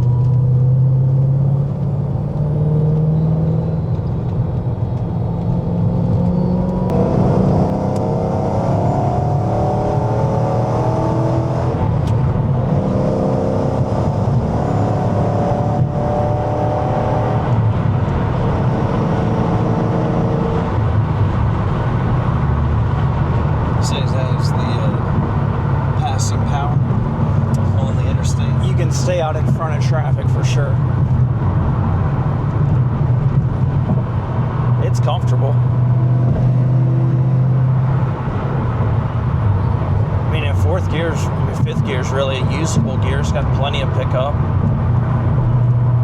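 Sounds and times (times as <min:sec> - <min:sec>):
car engine accelerating through gears: 0:00.0 - 0:46.0.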